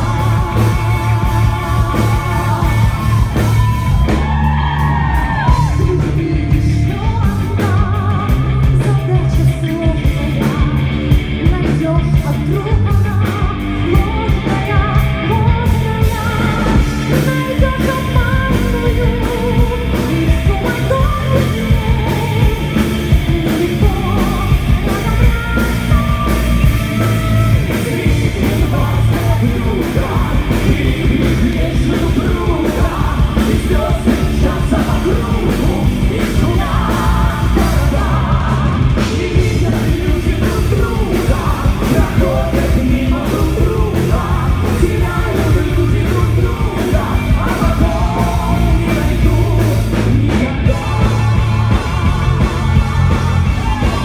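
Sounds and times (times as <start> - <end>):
live rock band playing: 0.0 - 54.0
woman and men singing: 0.0 - 54.0.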